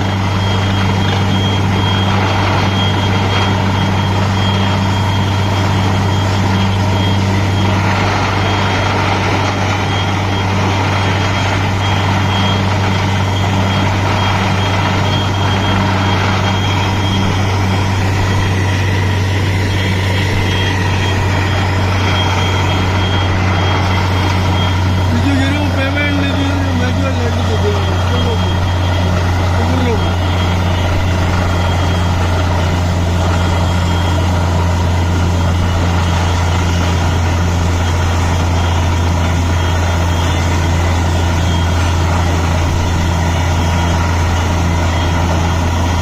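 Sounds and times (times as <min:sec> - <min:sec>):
drilling machine engine drone: 0:00.0 - 0:46.0
high-pitched whine: 0:00.0 - 0:46.0.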